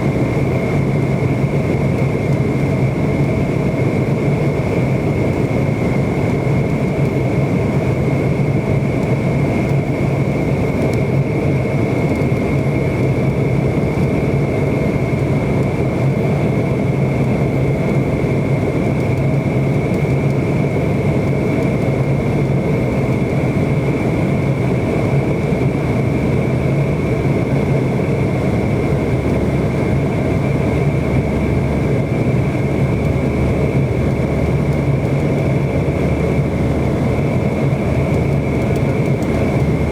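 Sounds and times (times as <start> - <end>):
jet engine whine and rush: 0.0 - 39.9.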